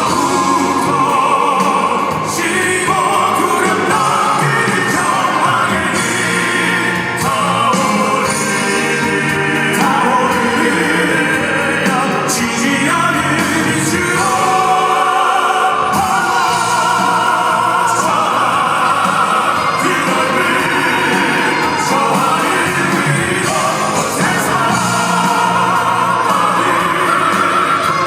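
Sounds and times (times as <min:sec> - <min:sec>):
male vocal group singing: 0:00.0 - 0:28.0
musical accompaniment: 0:00.0 - 0:28.0.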